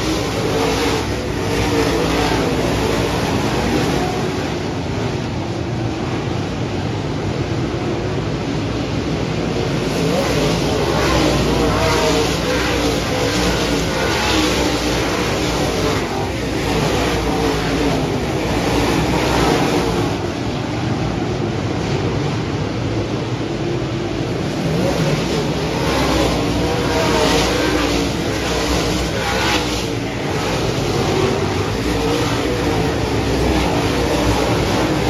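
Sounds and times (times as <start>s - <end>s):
race car engines roaring: 0.0s - 35.0s.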